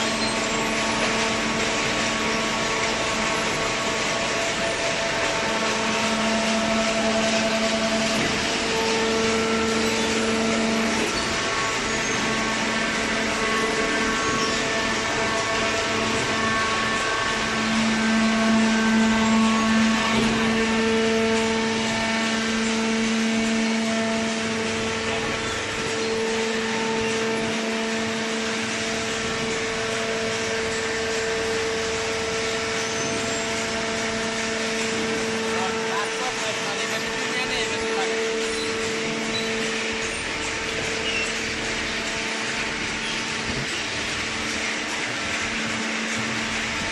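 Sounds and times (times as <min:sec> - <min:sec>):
baler machine droning: 0:00.0 - 0:46.9.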